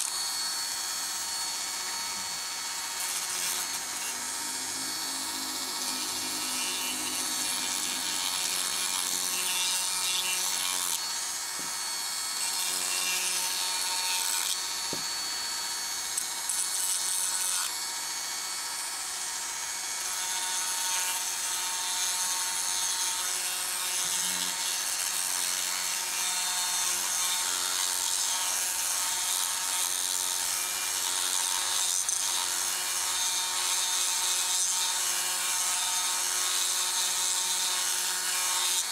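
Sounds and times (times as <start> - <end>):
grinding stone rasping on wood: 0.0 - 17.8, 19.2 - 38.9
rotary tool motor whine: 0.0 - 38.9.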